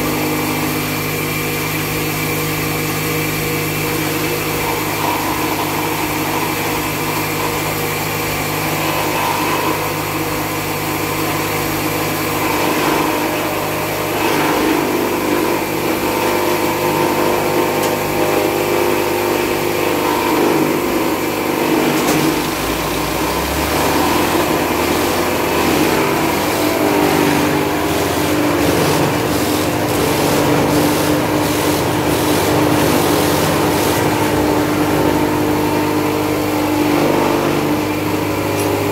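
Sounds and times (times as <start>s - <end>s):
small gasoline engine droning: 0.0s - 38.9s.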